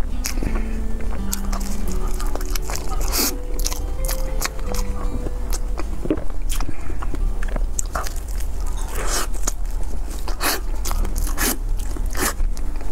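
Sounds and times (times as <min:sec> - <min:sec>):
biting and chewing cake: 0:00.0 - 0:12.9.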